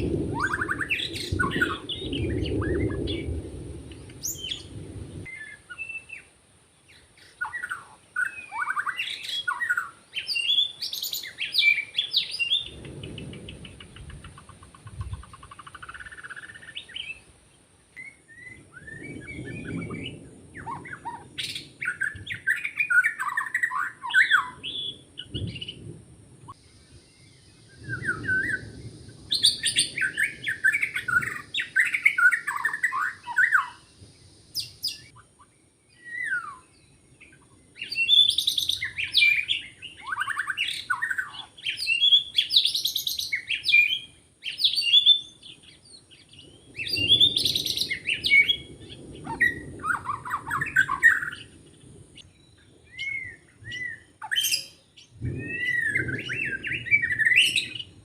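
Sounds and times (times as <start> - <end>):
bird singing whistled phrases: 0.3 - 3.2, 4.2 - 4.7, 5.3 - 6.3, 6.9 - 13.7, 18.0 - 25.8, 27.7 - 33.9, 35.9 - 51.5, 52.2 - 58.0.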